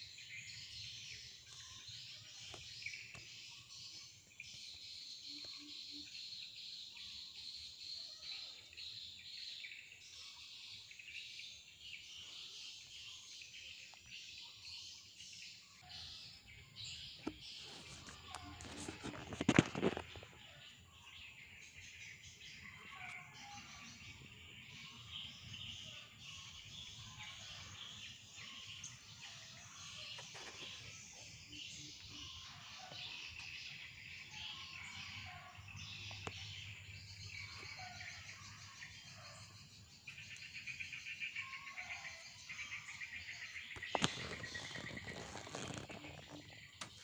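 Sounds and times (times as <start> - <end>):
small birds chirping and twittering: 0.0 - 47.0.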